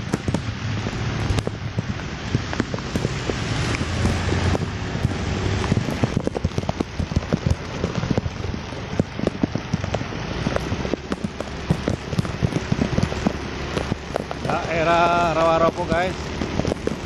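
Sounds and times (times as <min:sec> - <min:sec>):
rain hissing on wet road: 0:00.0 - 0:17.0
raindrops ticking on phone: 0:00.0 - 0:17.0.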